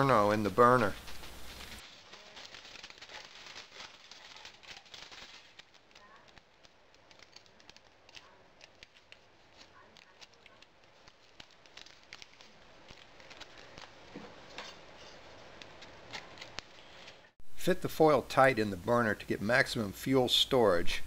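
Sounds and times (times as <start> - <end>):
aluminium foil crinkling: 0.0 - 17.4.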